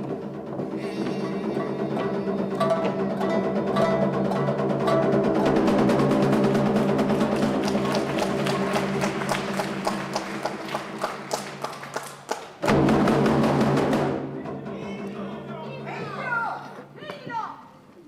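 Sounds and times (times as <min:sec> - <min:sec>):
drum: 0:00.0 - 0:17.5.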